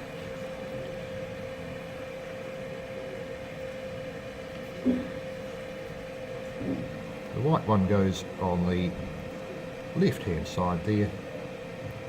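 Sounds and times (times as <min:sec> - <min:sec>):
extraction fan humming: 0:00.0 - 0:12.0.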